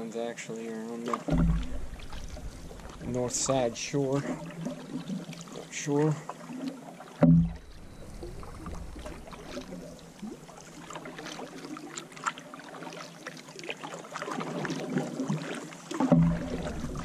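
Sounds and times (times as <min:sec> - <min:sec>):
canoe paddle splashing in water: 0:01.0 - 0:17.0
water dripping off paddle: 0:01.0 - 0:17.0.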